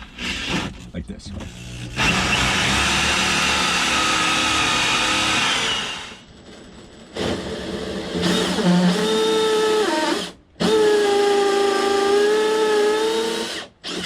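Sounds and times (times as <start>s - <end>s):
power drill whining: 0.0s - 0.8s, 1.5s - 6.2s, 7.2s - 14.0s.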